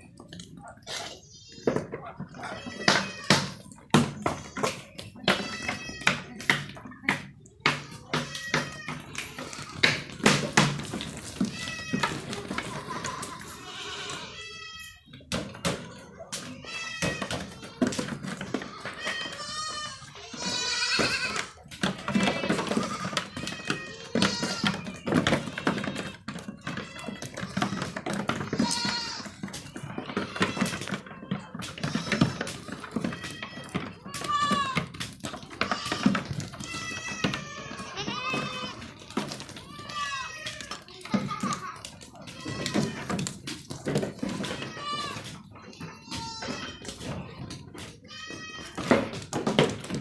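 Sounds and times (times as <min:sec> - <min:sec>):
goats bleating: 0:00.8 - 0:03.7, 0:04.8 - 0:06.4, 0:07.9 - 0:15.0, 0:16.4 - 0:49.1
sharp knocks and clatters: 0:01.7 - 0:14.0, 0:15.2 - 0:50.0.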